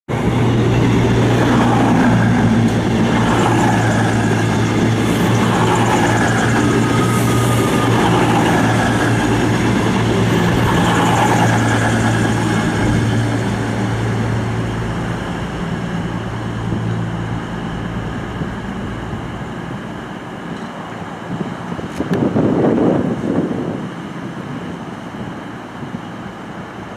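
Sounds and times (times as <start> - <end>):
diesel train engine hum: 0.1 - 26.9.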